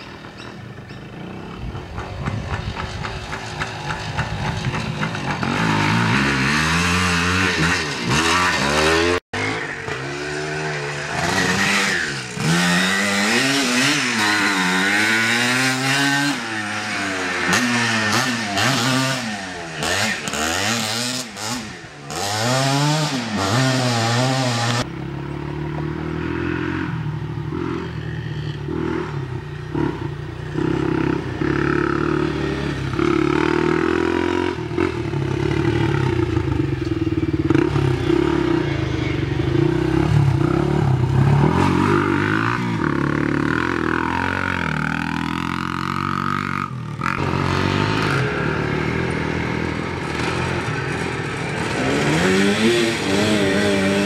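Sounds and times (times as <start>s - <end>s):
motorcycles revving past: 0.0s - 54.0s.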